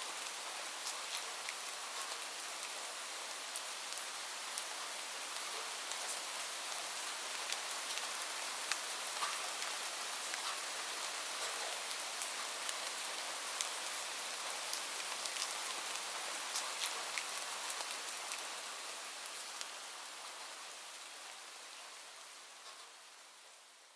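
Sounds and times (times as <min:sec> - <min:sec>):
steady rain hiss: 0:00.0 - 0:23.9
raindrops ticking on a surface: 0:00.1 - 0:23.2.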